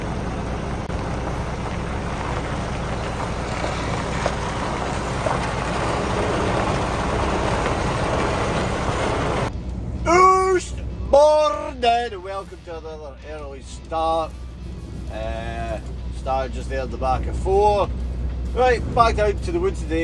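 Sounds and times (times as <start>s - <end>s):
road and wind noise: 0.0s - 20.0s
truck engine drone: 0.0s - 20.0s.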